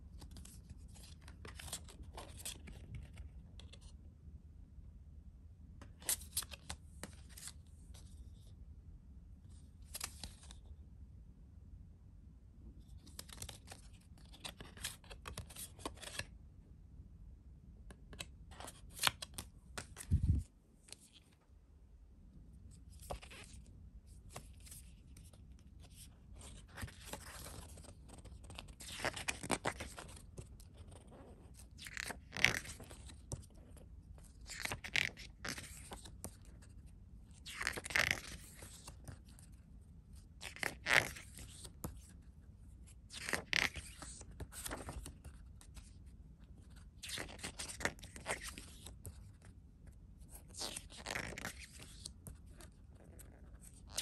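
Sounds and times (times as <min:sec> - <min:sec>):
booklet pages turning: 0:00.1 - 0:04.0, 0:05.8 - 0:08.5, 0:09.8 - 0:10.7, 0:12.8 - 0:16.3, 0:18.0 - 0:21.4, 0:22.8 - 0:39.6, 0:40.2 - 0:42.3, 0:42.9 - 0:49.6, 0:50.3 - 0:54.0.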